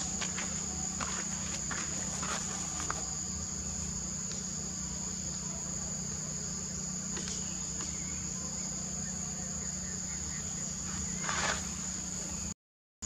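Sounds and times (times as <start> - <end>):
insects chirring: 0.0 - 12.6
low steady hum: 0.0 - 12.6.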